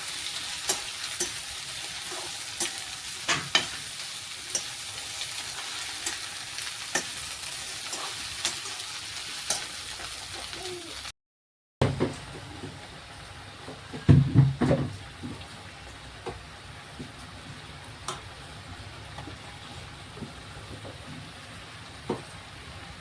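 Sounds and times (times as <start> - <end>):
okra frying in a pan: 0.0 - 11.1, 11.8 - 23.0.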